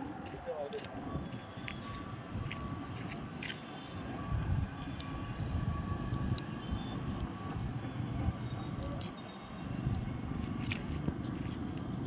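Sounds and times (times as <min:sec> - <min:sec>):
outdoor background rumble: 0:01.0 - 0:12.0.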